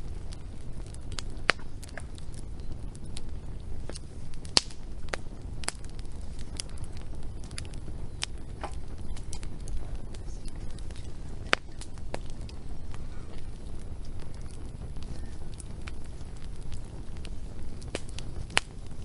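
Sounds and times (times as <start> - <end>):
fire rumbling: 0.0 - 19.0
wood fire pops and snaps: 0.0 - 19.0.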